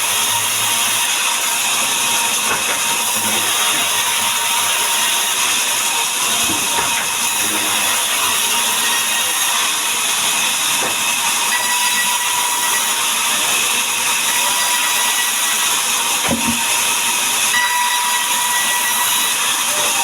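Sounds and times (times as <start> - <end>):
power saw cutting wood: 0.0 - 20.0
saw blade whine: 0.0 - 20.0.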